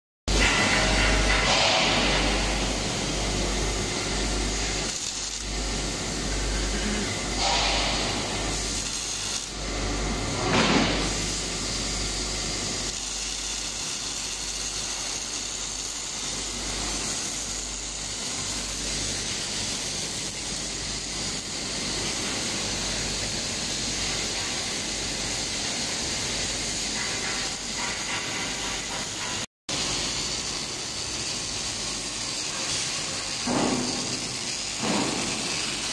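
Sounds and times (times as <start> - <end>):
welding arc hissing and crackling: 0.3 - 35.9.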